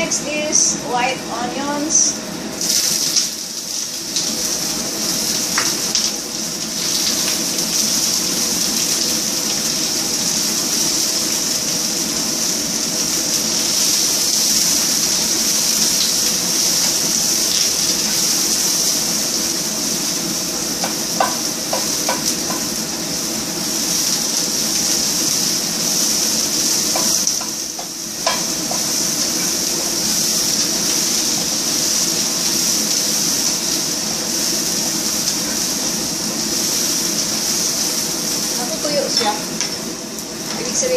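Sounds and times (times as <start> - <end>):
garlic and onions sizzling in oil: 0.0 - 40.9.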